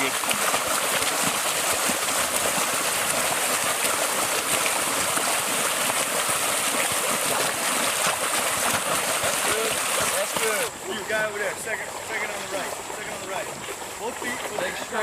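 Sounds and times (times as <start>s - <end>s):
water splashing from kicking feet: 0.0s - 10.7s, 11.3s - 15.0s.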